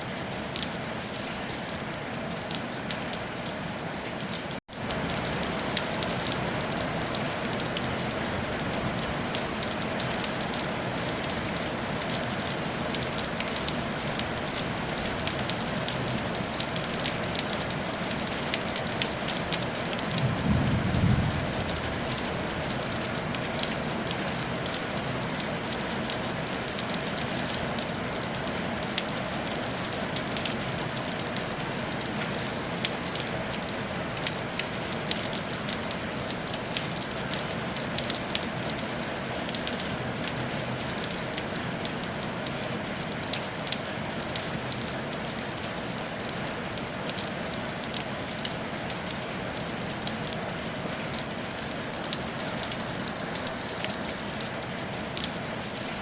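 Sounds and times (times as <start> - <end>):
rain pattering on a tile roof: 0.0 - 56.0.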